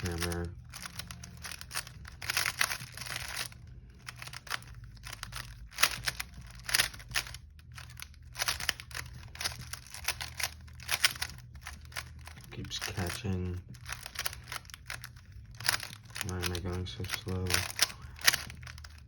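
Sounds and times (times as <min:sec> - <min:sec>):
puzzle cube clicking: 0:00.0 - 0:19.0.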